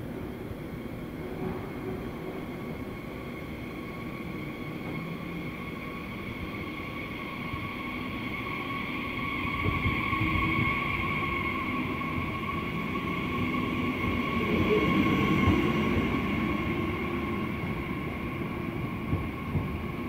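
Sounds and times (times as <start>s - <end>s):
train rumbling with high whine: 0.0s - 20.0s.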